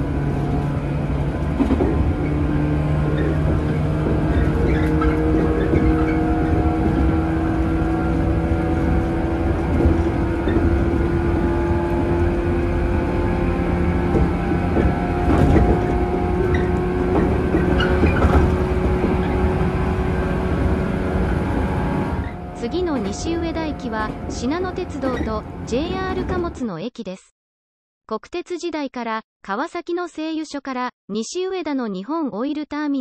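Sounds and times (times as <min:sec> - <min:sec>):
wheels knocking over rail joints: 0:00.0 - 0:26.5
traction motor hum: 0:00.0 - 0:26.6
train wheels rumbling: 0:00.0 - 0:26.6.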